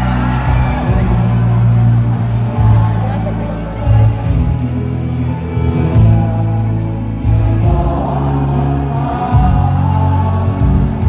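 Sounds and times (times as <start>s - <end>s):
instrumental backing: 0.0s - 11.0s
person singing a slow ballad: 0.0s - 11.0s
sustained bass notes: 0.0s - 11.0s.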